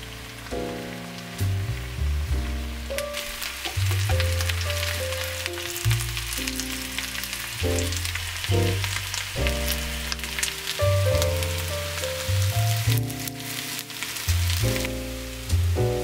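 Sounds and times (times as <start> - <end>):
background music with bass line: 0.0 - 13.6, 14.3 - 16.0
potatoes sizzling in a pan: 0.0 - 16.0.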